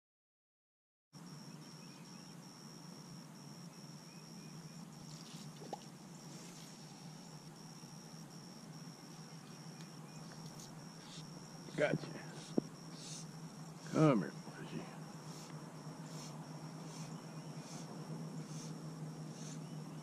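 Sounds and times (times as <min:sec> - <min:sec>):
high-pitched insect trilling: 0:01.2 - 0:20.0
low steady hum: 0:01.2 - 0:20.0.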